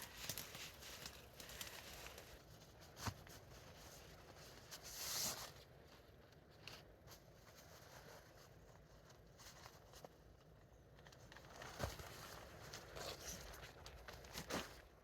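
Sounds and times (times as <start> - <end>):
rustling and handling noises: 0.0 - 15.0.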